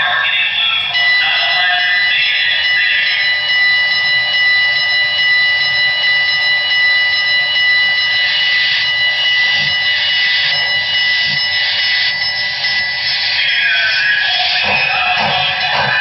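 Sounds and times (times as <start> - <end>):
model steam locomotive whistle: 0.0 - 16.0.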